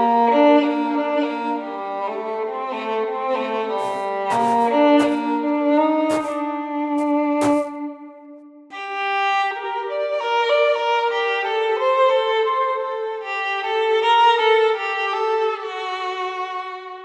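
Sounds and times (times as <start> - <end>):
slow violin melody: 0.0 - 17.0.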